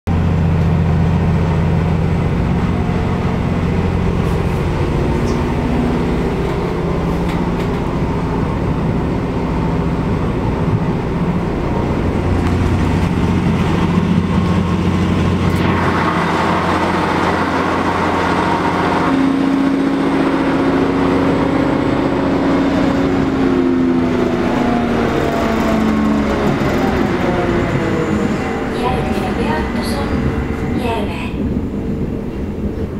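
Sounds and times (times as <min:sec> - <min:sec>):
rising whine: 0:00.1 - 0:32.9
train diesel engine drone: 0:00.1 - 0:32.9.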